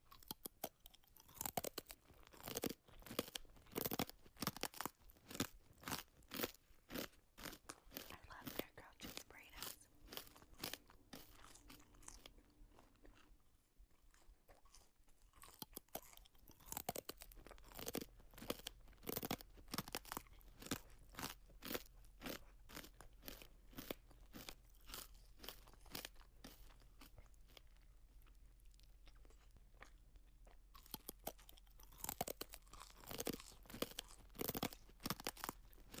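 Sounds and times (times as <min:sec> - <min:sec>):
crunching and chewing crisp food: 0:00.0 - 0:36.0.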